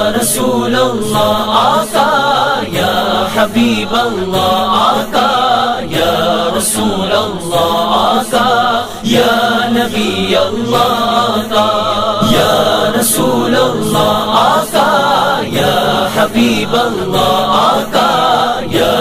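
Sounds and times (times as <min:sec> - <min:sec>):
steady low hum: 0:00.0 - 0:19.0
voices chanting: 0:00.0 - 0:19.0.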